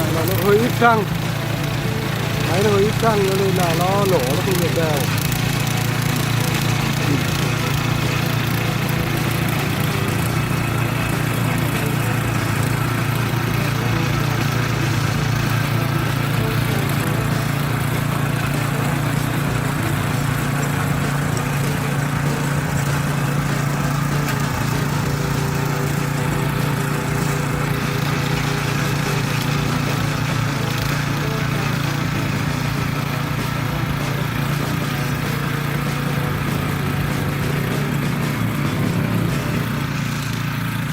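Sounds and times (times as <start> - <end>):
tiller engine running unevenly: 0.0 - 40.9.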